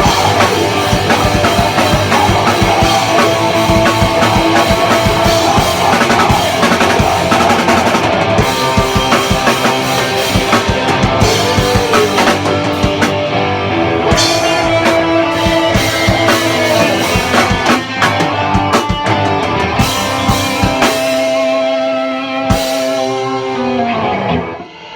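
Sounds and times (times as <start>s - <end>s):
rock band playing: 0.0s - 24.9s.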